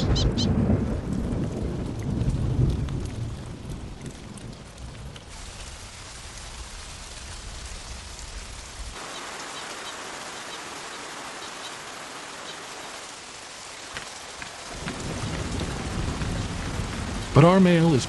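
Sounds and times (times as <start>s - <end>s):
rain on water: 0.0s - 18.0s.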